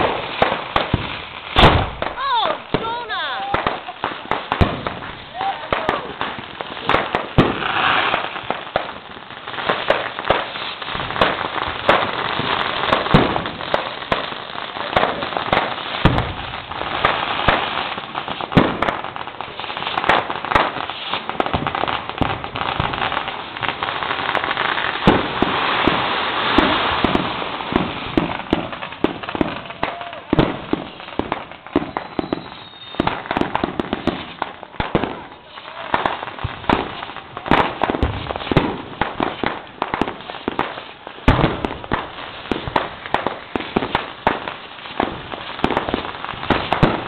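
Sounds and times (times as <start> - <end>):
fireworks hissing: 0.0 - 47.0
fireworks popping and banging: 0.0 - 47.0.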